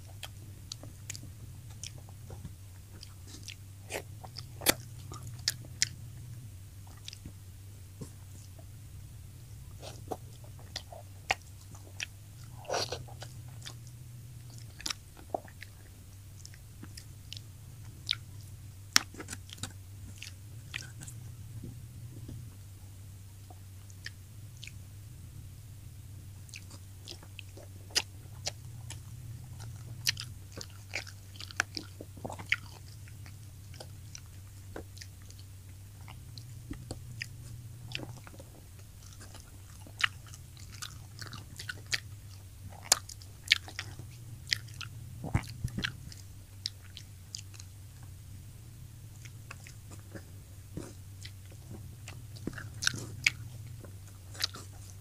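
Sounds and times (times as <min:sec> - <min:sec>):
chewing and biting: 0:00.0 - 0:55.0.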